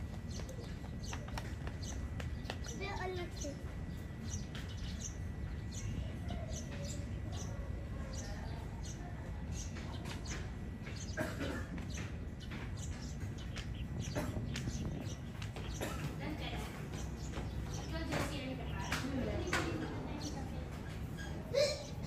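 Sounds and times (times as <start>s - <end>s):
steady low rumble: 0.0s - 21.0s
small birds chirping: 0.0s - 22.0s.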